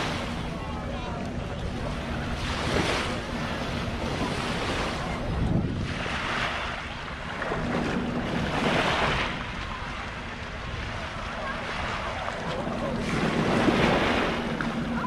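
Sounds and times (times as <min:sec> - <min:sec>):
sea waves washing onto beach: 0:00.0 - 0:15.0
wind rumbling on microphone: 0:00.0 - 0:15.0.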